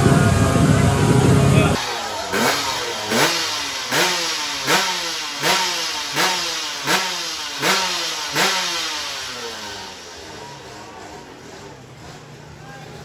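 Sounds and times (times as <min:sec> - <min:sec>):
motorcycle engine revving in blips: 0:00.0 - 0:12.4.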